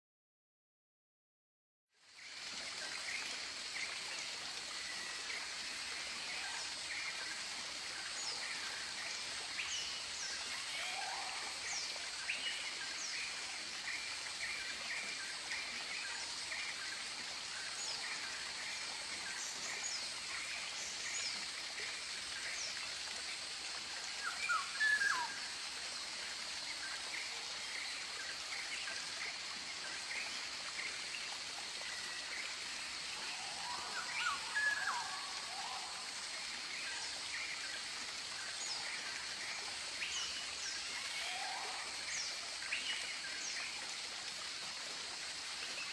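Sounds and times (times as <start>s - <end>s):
steady high-pitched hiss: 2.0s - 45.9s.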